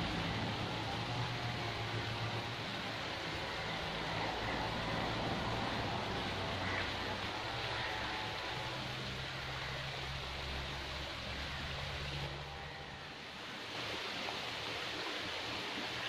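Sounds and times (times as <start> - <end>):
rushing outdoor noise: 0.0 - 16.0.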